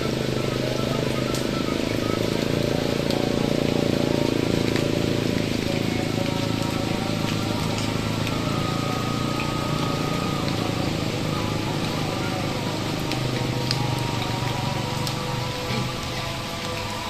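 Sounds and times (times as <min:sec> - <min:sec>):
soft background music: 0:00.0 - 0:17.0
steady rain: 0:00.0 - 0:17.0.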